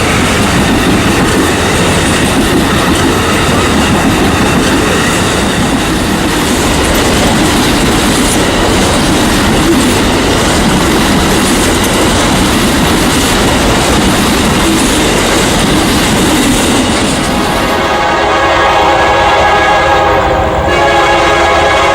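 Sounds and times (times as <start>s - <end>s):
train wheels rumbling on rails: 0.0s - 21.9s.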